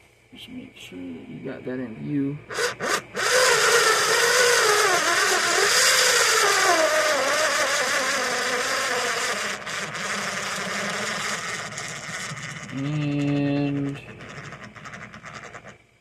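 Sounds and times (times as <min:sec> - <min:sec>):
electric screwdriver motor whining: 0:02.5 - 0:15.8.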